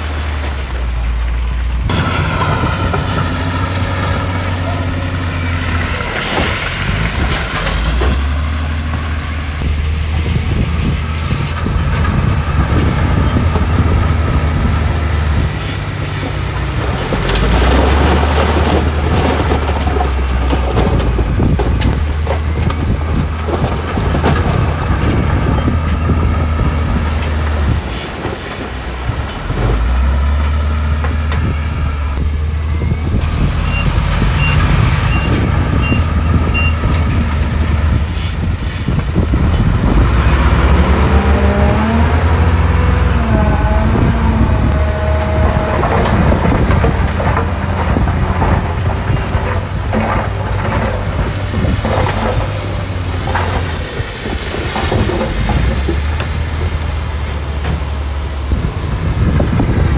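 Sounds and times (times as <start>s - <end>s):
heavy diesel machinery working: 0.0s - 59.9s.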